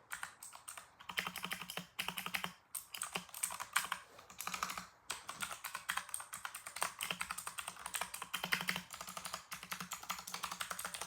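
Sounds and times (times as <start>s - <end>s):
mechanical keyboard typing: 0.1s - 11.0s.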